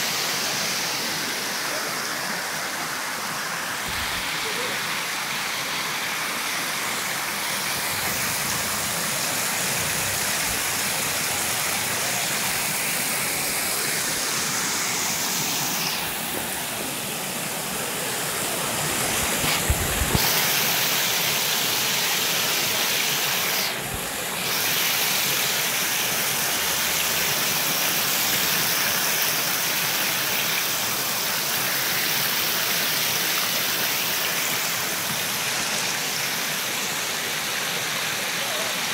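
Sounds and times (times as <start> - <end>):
water rushing over weir: 0.0 - 38.9.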